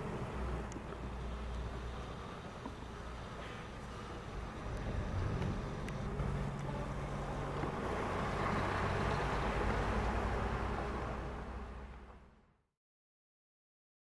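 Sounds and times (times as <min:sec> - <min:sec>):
truck diesel engine droning: 0:00.0 - 0:12.1
tyre and road noise: 0:00.0 - 0:12.4.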